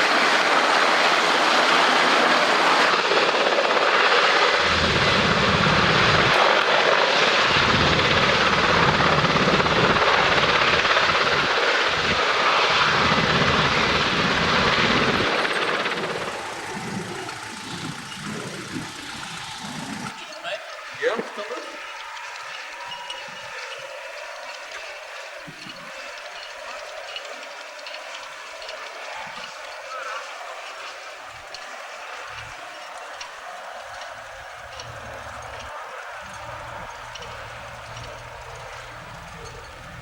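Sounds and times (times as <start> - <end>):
aircraft roar passing: 0.0 - 40.0.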